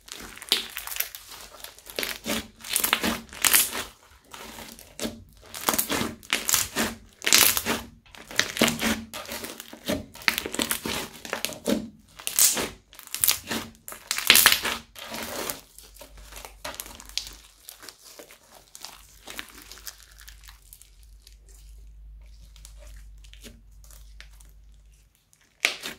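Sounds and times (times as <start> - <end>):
crunchy slime crackling: 0.0 - 25.9.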